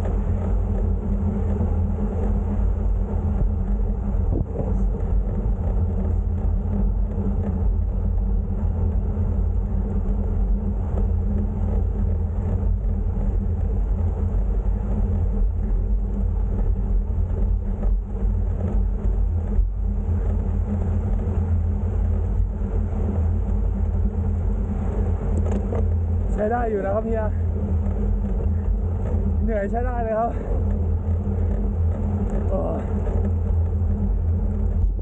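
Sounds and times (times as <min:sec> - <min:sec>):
bicycle road noise: 0:00.0 - 0:35.0
wind rumble on microphone: 0:00.0 - 0:35.0.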